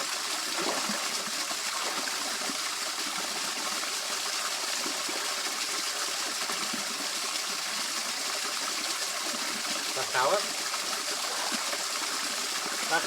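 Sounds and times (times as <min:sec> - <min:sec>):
water rushing over small waterfall: 0:00.0 - 0:13.0.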